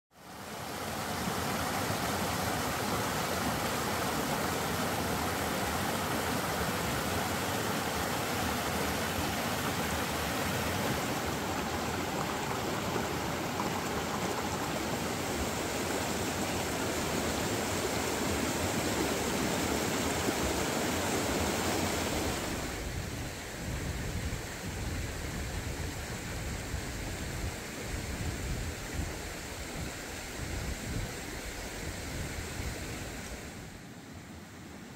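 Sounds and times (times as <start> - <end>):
river rushing over rapids: 0.2 - 34.9.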